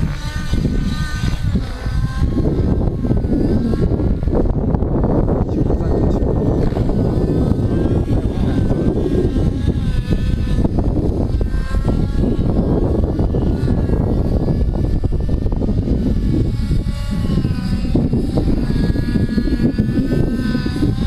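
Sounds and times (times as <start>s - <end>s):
low rumble: 0.0s - 21.0s
propeller aircraft engine droning: 0.0s - 21.0s.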